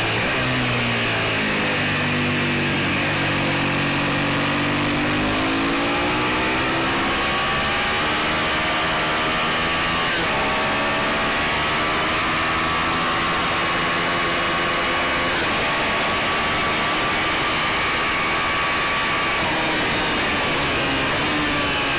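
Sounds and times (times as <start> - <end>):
motorcycle engine running hard: 0.0 - 21.9.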